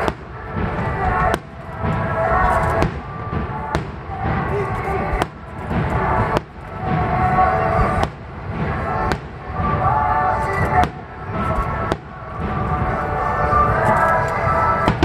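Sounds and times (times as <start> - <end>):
firework shells booming: 0.0 - 15.0
music: 0.0 - 15.0
voices: 0.0 - 15.0.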